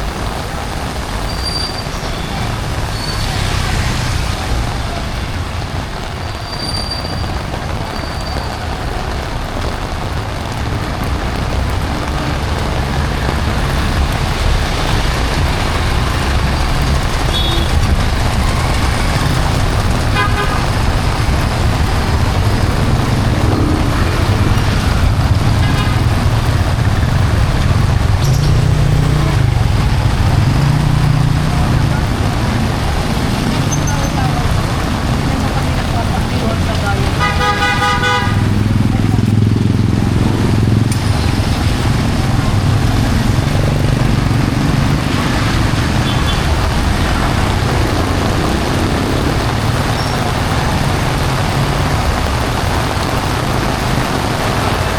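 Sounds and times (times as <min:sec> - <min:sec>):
heavy rain on street: 0:00.0 - 0:54.9
road traffic: 0:00.0 - 0:54.9.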